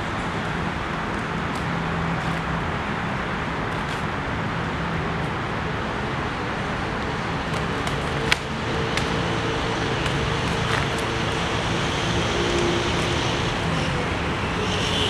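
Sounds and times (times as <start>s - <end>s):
distant traffic: 0.0s - 15.0s.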